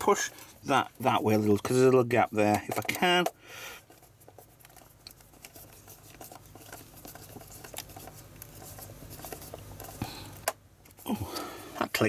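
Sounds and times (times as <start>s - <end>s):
plastic parts clicking and rustling: 1.4s - 12.0s.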